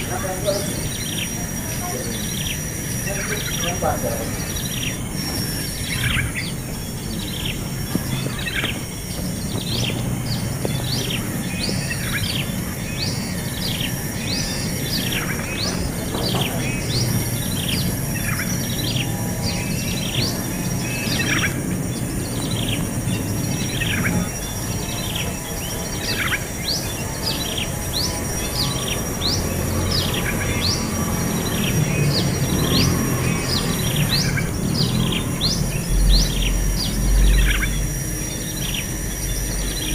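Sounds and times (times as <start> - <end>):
baby birds chirping: 0.0 - 39.9.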